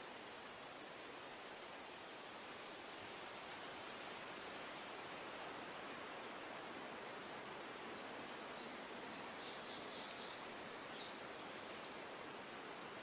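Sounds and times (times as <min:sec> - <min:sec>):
outdoor ambience hiss: 0:00.0 - 0:13.0.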